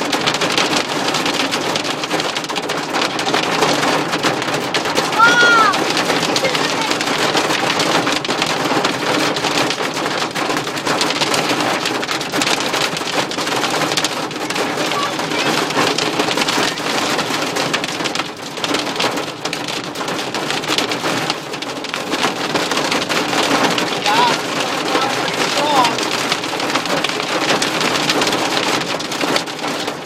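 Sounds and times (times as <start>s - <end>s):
hail pelting car roof: 0.0s - 30.0s.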